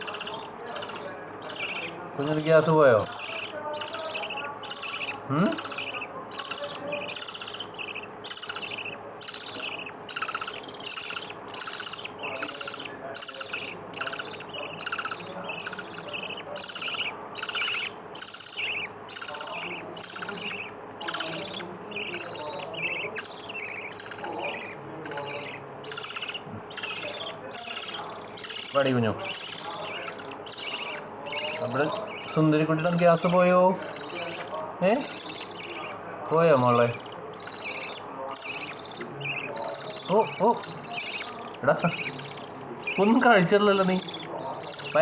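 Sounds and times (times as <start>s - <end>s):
bird chicks chirping: 0.0s - 45.0s.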